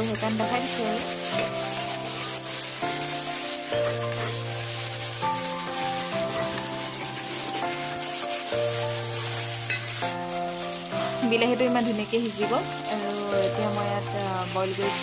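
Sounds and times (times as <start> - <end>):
background music of held notes: 0.0 - 15.0
metal spatula scraping a pan: 0.0 - 15.0
vegetables sizzling in oil: 0.0 - 15.0.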